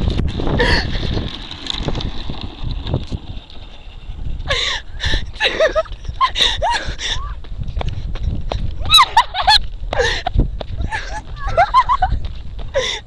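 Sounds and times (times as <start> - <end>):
low rumble: 0.0 - 12.8
wind buffeting microphone: 0.0 - 13.0.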